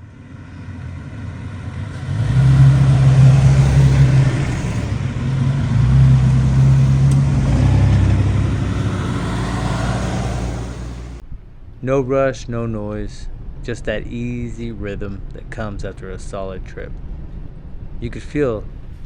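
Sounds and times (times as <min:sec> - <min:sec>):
vehicle engine running: 0:00.0 - 0:11.2, 0:13.3 - 0:19.0.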